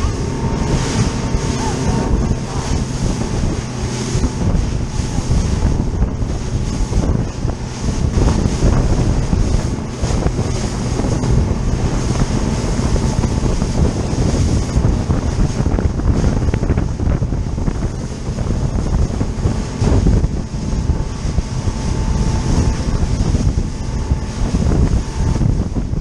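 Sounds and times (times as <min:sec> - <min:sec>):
boat engine drone: 0:00.0 - 0:26.0
water slapping hull: 0:00.0 - 0:26.0
wind buffeting microphone: 0:00.0 - 0:26.0.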